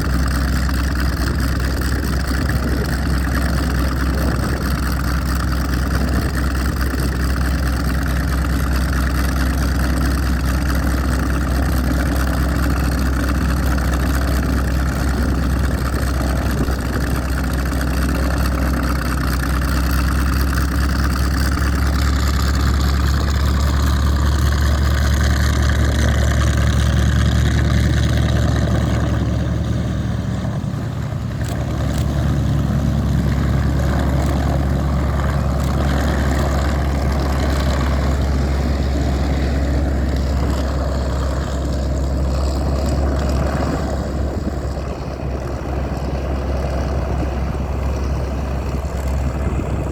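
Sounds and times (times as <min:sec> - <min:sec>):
piston aircraft engine droning: 0:00.0 - 0:49.9.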